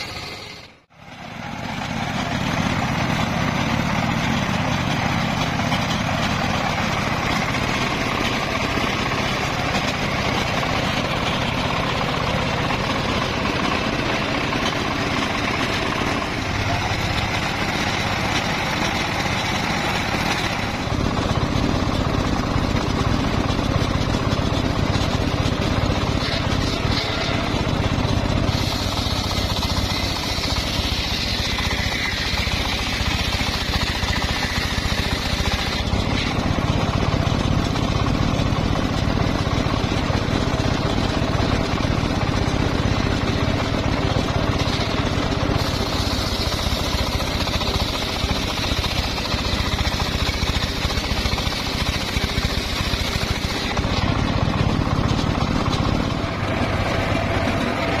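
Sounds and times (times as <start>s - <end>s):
saw blade cutting log: 0.0s - 0.9s, 1.8s - 21.2s, 24.9s - 38.1s, 44.0s - 58.0s
sawmill engine pulsing: 0.0s - 58.0s.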